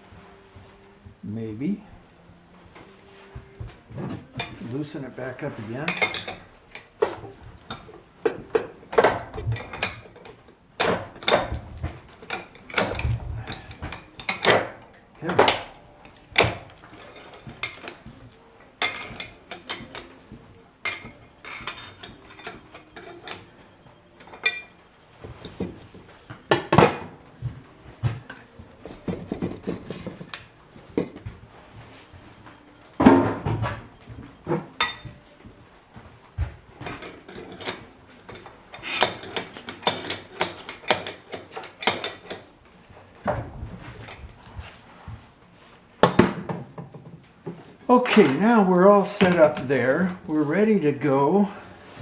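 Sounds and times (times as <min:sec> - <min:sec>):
metal tools clanking: 0:00.0 - 0:52.0.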